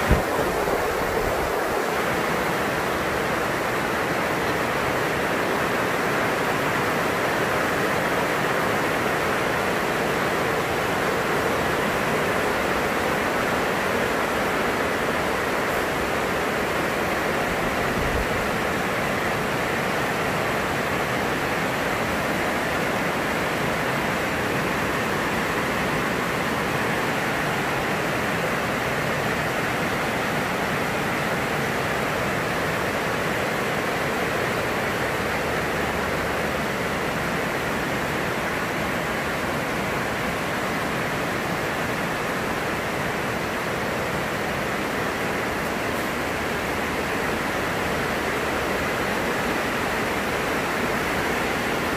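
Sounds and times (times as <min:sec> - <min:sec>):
heavy rain on greenhouse roof: 0:00.0 - 0:51.9.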